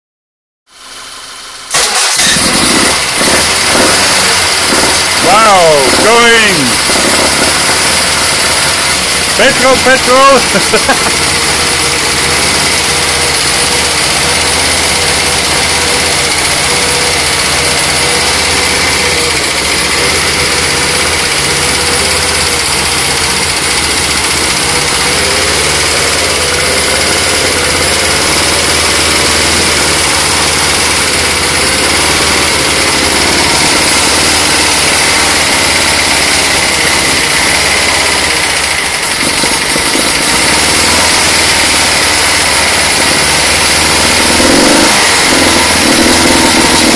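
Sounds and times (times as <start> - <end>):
engine running steadily: 0.7 - 46.9.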